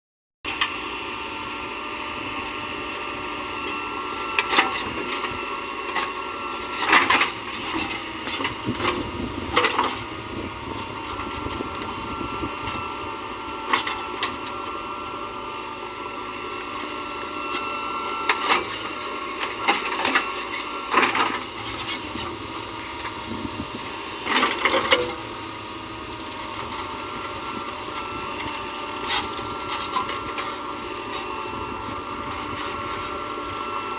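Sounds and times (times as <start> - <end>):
diesel engine running: 0.5 - 33.9.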